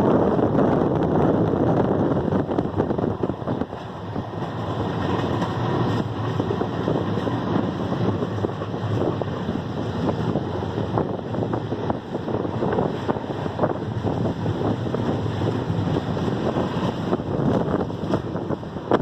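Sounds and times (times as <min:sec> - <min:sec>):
train rumbling and rattling: 0:00.0 - 0:19.0
wind buffeting microphone: 0:00.0 - 0:19.0.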